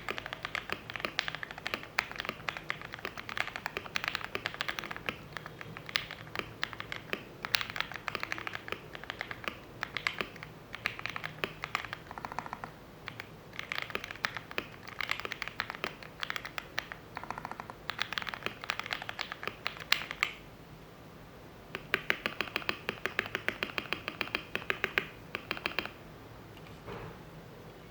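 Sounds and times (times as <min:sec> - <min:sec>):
mechanical keyboard typing: 0:00.0 - 0:20.4, 0:21.7 - 0:26.0.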